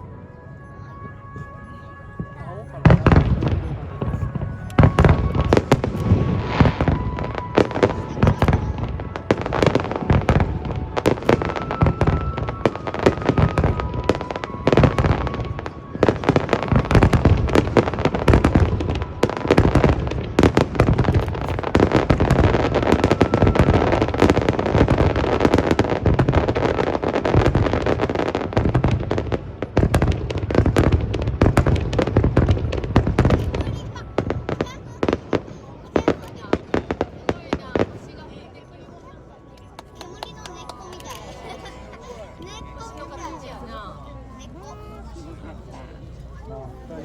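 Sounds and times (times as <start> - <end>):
fireworks bursting: 1.0 - 38.5, 39.6 - 45.1
fireworks crackling: 1.0 - 47.0.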